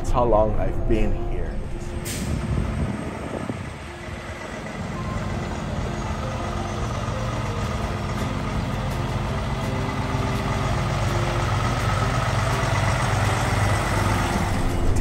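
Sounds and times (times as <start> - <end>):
truck engine running: 1.6 - 15.0.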